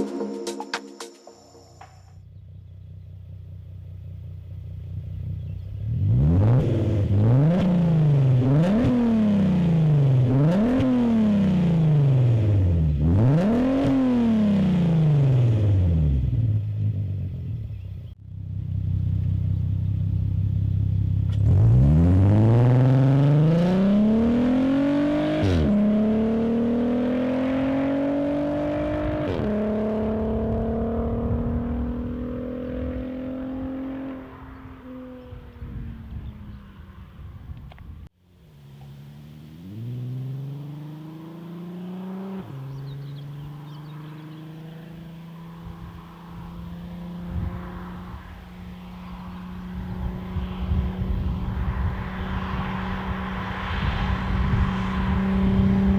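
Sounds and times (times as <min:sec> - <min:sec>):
car engine accelerating: 0:01.7 - 0:55.9
car engine revving: 0:02.3 - 0:55.9.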